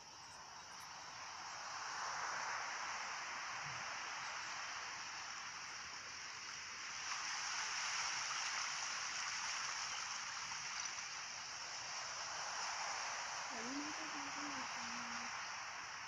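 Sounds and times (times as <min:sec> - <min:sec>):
rushing hiss of outdoor ambience: 0:00.0 - 0:16.0.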